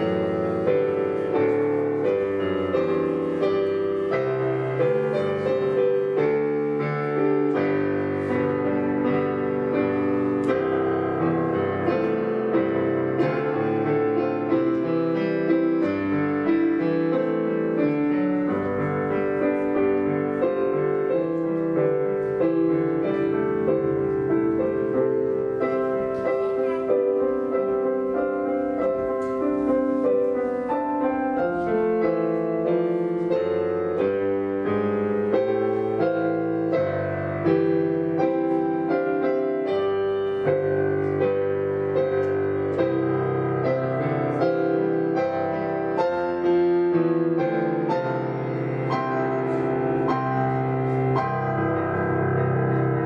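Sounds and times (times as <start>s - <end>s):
slow piano piece: 0.0s - 53.0s.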